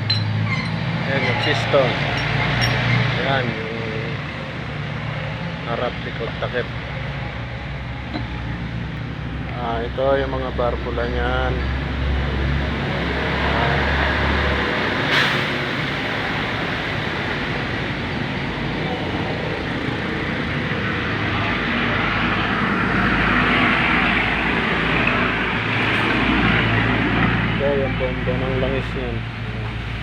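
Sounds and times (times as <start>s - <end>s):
passing vehicles rumbling: 0.0s - 30.0s.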